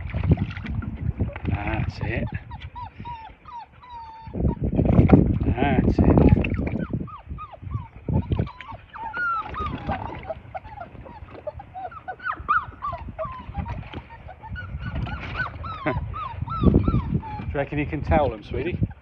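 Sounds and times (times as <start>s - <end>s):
puppies whining and squeaking: 1.2s - 19.0s.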